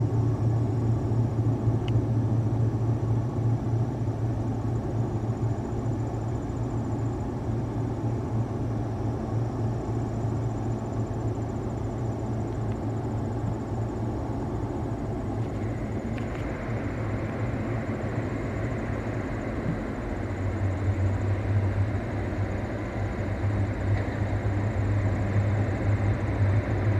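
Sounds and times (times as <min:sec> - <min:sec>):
diesel locomotives rumbling: 0:00.0 - 0:26.9.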